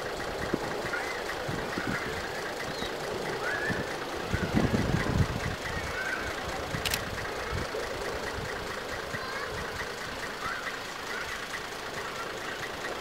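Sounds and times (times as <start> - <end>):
diesel railbus engine idling: 0.0 - 13.0.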